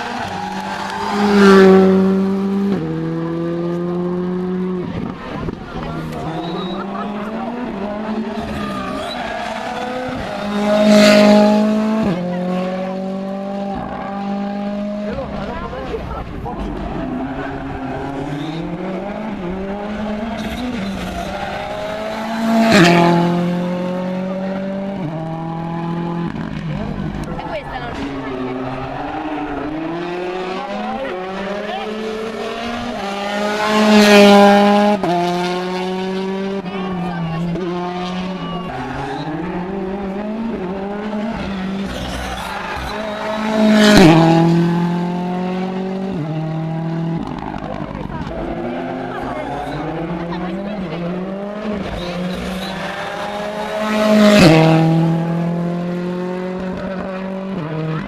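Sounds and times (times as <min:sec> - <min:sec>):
rally car engine passing by: 0:00.0 - 0:58.0.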